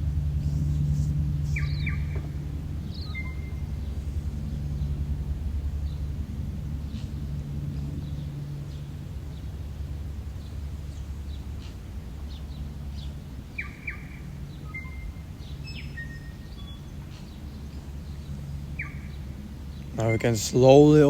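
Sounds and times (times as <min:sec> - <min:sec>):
low outdoor rumble: 0:00.0 - 0:21.0
wild birds chirping: 0:00.0 - 0:21.0.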